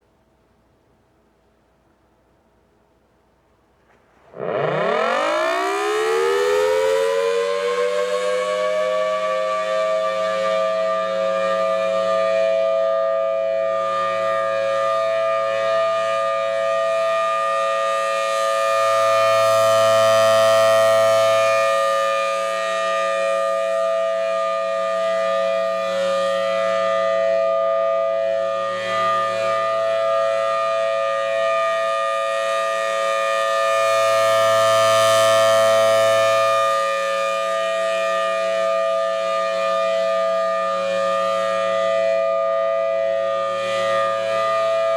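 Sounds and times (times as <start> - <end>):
outdoor warning siren steady tone: 4.2 - 44.9.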